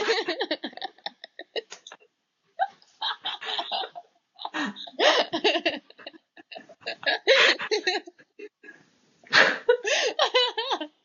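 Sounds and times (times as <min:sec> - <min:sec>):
girls laughing: 0:00.0 - 0:01.8, 0:02.6 - 0:08.8, 0:09.6 - 0:10.9.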